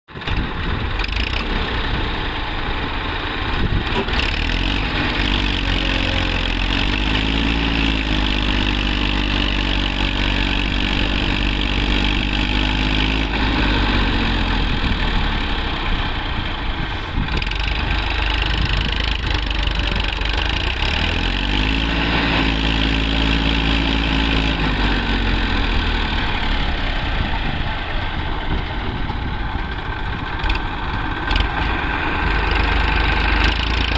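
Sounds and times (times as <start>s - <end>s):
tractor engine revving: 0.1s - 33.9s.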